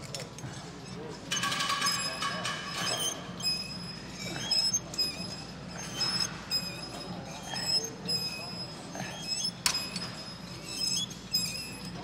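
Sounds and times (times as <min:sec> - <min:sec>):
metal gym equipment squealing: 0:00.8 - 0:12.0.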